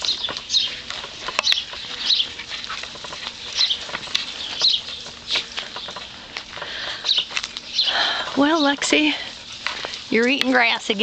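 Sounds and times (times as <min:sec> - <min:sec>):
birds chirping: 0:00.0 - 0:11.0
light clicks and rustling: 0:00.0 - 0:11.0.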